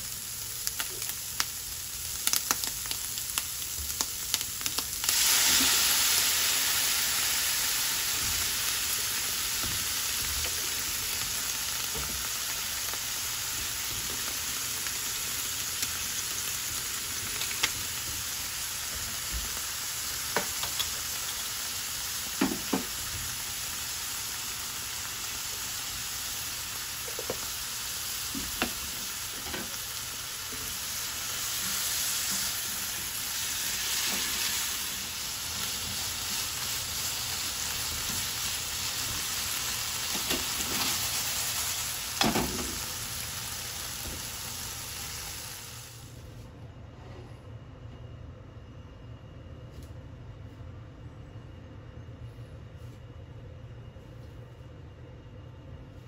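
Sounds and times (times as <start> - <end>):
food sizzling in a frying pan: 0.0 - 46.2.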